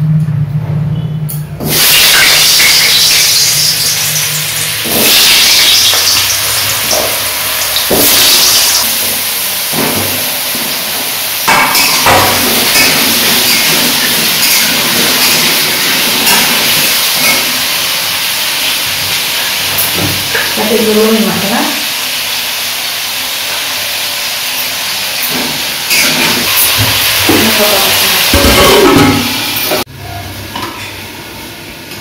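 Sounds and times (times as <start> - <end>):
potatoes sizzling in hot oil: 1.7 - 29.8.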